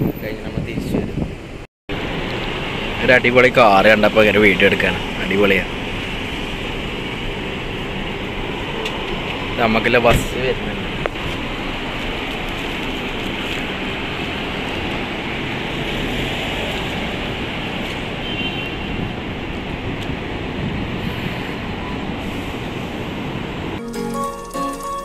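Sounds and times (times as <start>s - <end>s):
road traffic noise: 0.0s - 25.0s
bus approaching: 1.2s - 18.2s, 18.9s - 25.0s.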